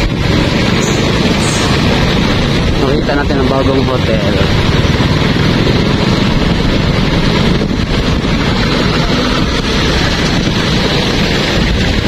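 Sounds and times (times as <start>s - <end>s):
vehicle engine noise: 0.0s - 12.0s
wind rush on microphone: 0.0s - 12.0s.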